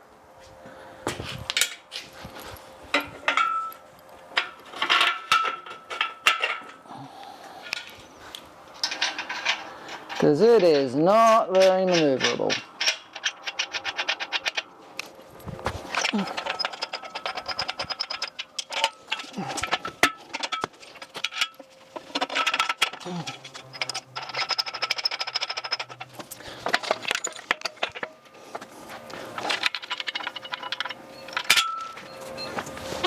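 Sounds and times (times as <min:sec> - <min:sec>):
metal clanks and rattles: 0:01.1 - 0:06.9, 0:07.6 - 0:33.0.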